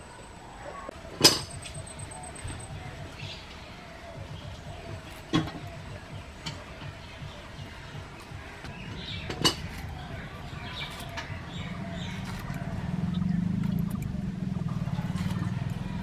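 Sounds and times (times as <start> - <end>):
low rumble: 1.6 - 16.0.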